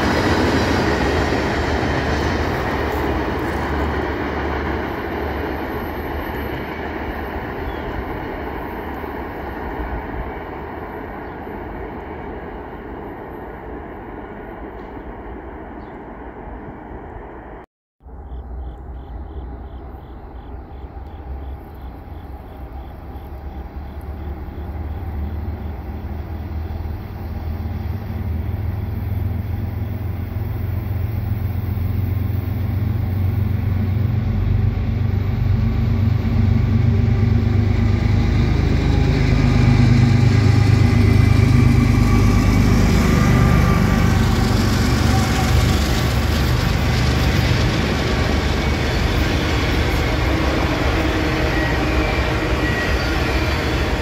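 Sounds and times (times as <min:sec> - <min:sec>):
diesel locomotive: 0:00.0 - 0:54.0
train wheels on rails: 0:00.0 - 0:54.0.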